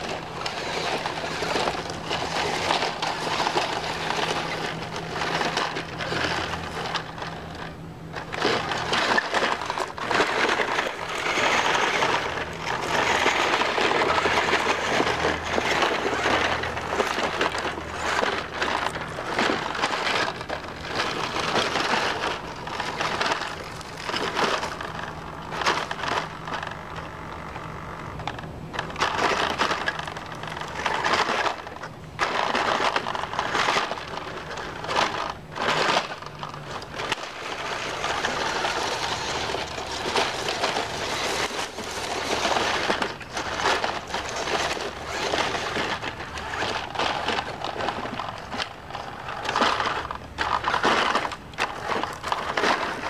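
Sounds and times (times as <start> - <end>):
tires crunching on rock: 0.0 - 53.0.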